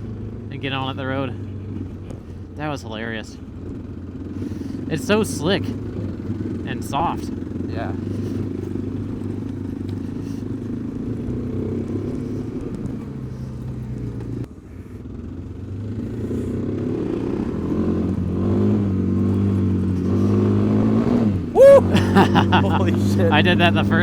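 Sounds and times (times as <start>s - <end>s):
motorcycle engine under throttle: 0.0s - 21.6s, 22.2s - 24.0s.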